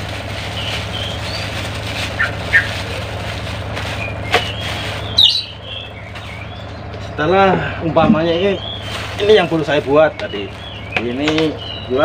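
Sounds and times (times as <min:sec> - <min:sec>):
steady low hum: 0:00.0 - 0:10.9
birds chirping: 0:00.4 - 0:12.0.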